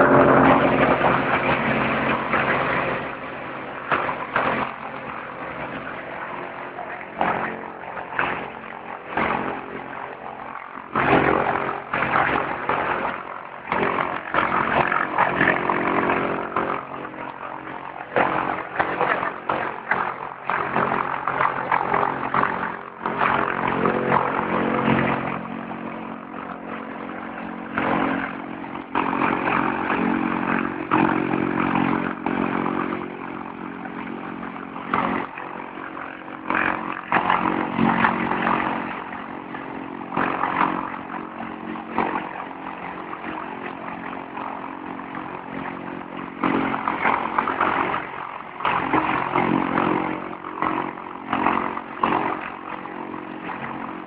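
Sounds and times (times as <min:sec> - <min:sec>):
light aircraft engine running: 0:00.0 - 0:54.0.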